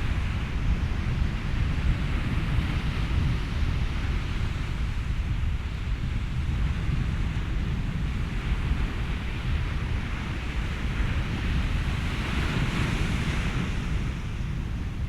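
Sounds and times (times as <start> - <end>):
ocean waves rumbling: 0.0 - 15.0
wind: 0.0 - 15.0.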